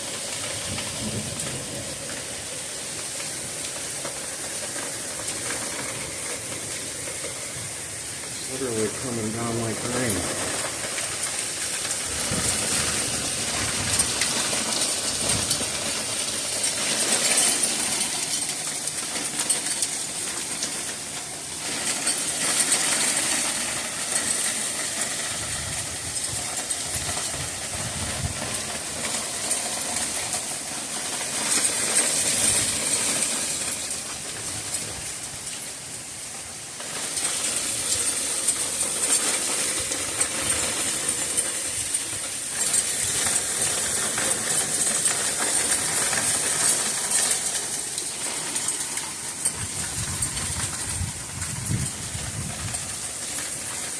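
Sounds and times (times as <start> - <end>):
heavy hail hissing: 0.0 - 53.9.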